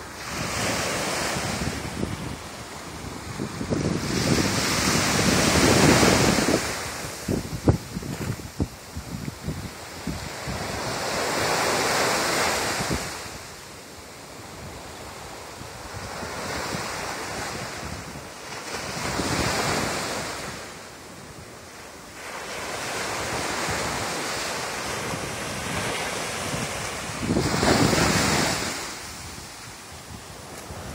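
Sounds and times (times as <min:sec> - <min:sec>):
surf waves breaking on sand: 0:00.0 - 0:30.9
wind buffeting microphone: 0:00.2 - 0:13.5, 0:14.4 - 0:21.6, 0:22.6 - 0:30.9.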